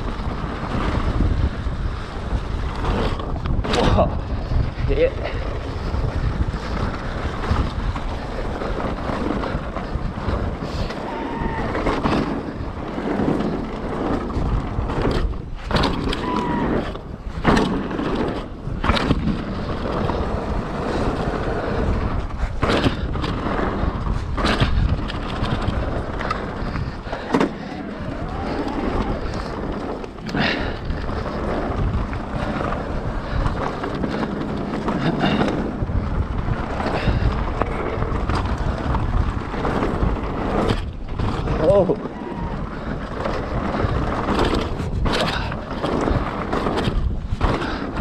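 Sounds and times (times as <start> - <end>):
bike knocking over bumps: 0.0 - 48.0
tyres rumbling on dirt: 0.0 - 48.0
wind buffeting microphone: 0.0 - 48.0.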